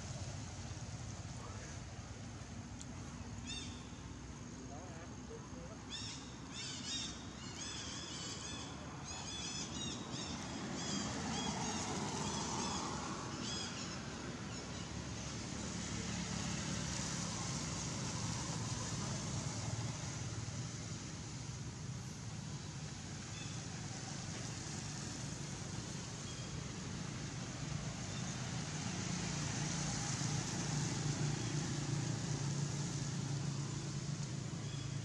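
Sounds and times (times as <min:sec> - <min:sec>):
vehicle engine and tyre noise: 0:00.0 - 0:35.0.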